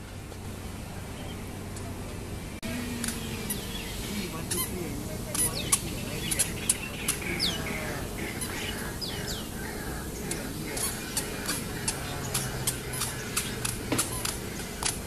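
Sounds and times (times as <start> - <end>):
birds chipping: 0.0 - 15.0.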